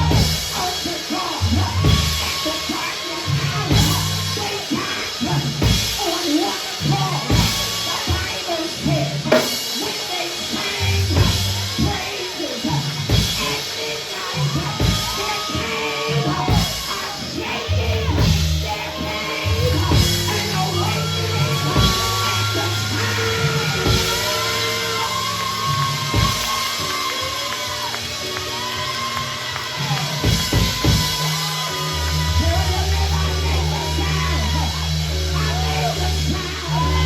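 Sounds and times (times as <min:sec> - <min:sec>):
church praise music: 0:00.0 - 0:37.0.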